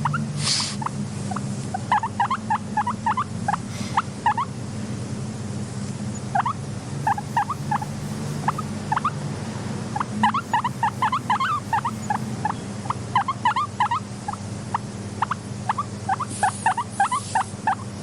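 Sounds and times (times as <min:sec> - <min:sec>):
guinea pig squeaking: 0:00.0 - 0:04.6, 0:06.1 - 0:09.2, 0:09.9 - 0:18.0
low steady hum: 0:00.0 - 0:18.0.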